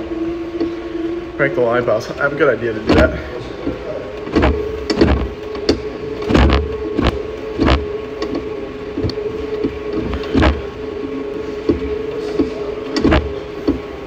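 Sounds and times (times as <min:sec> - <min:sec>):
exercise bike whirring: 0:00.0 - 0:14.0.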